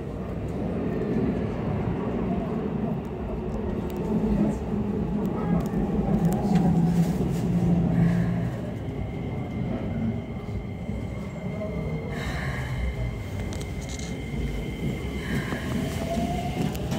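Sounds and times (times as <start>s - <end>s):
high train whine: 0.0s - 16.9s
train wheels rumbling on rail: 0.0s - 16.9s.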